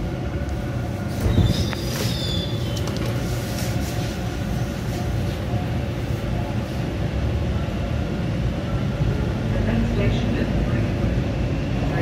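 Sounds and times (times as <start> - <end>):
subway train rumbling on rails: 0.0 - 12.0.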